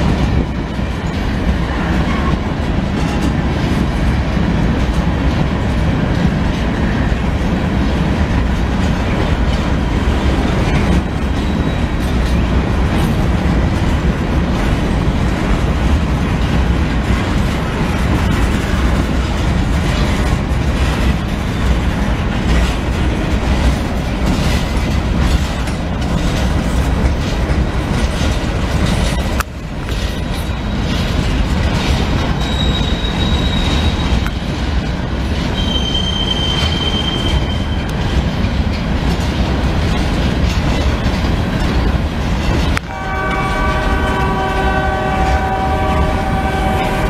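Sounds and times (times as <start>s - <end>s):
steel train wheels rumbling on rails: 0.0s - 47.0s.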